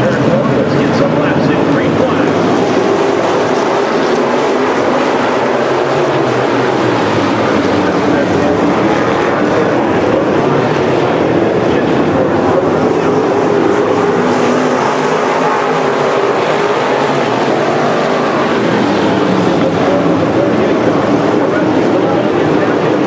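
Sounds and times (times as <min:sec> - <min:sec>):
race car engines roaring: 0:00.0 - 0:23.0.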